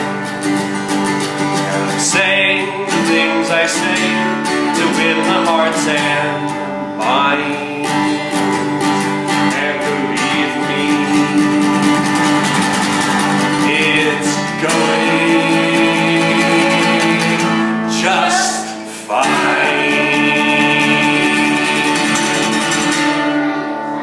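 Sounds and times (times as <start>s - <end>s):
acoustic guitar strumming: 0.0s - 24.0s
man singing: 1.4s - 23.3s.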